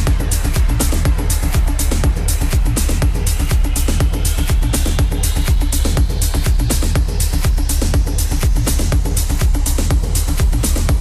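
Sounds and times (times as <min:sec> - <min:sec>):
electronic dance music: 0:00.0 - 0:11.0
kick drum: 0:00.0 - 0:11.0.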